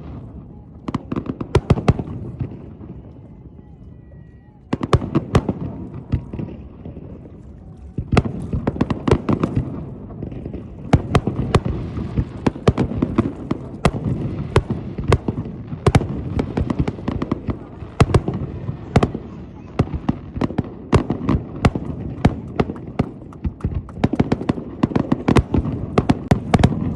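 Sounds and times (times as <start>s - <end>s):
fireworks bangs and crackling pops: 0.0s - 26.9s.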